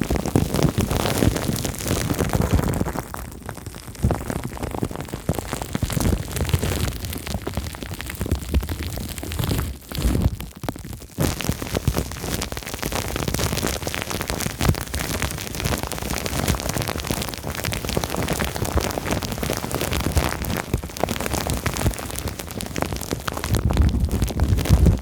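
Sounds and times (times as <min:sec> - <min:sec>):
plastic film crinkling: 0:00.0 - 0:25.0.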